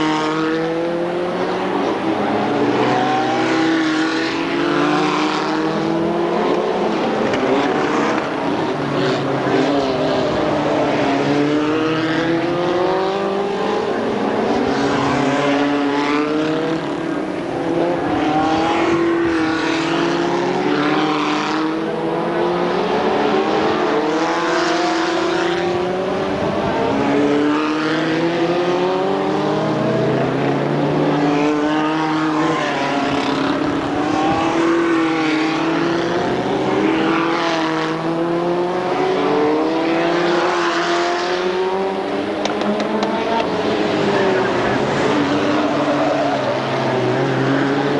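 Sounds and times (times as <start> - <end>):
race car engines accelerating: 0.0 - 47.9.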